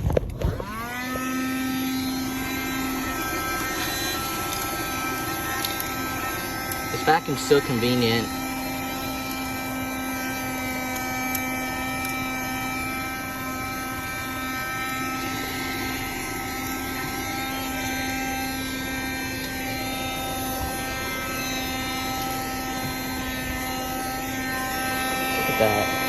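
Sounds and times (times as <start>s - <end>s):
handheld vacuum running: 0.0s - 26.0s.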